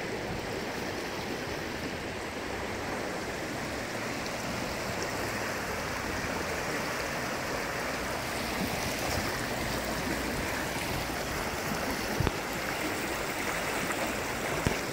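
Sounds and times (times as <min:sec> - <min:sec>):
river rushing over rocks: 0:00.0 - 0:14.9.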